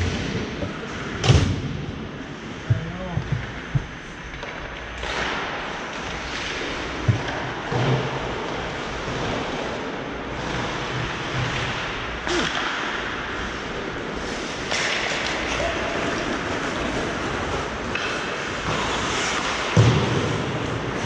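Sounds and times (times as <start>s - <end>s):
hockey rink ambience: 0.0s - 21.0s.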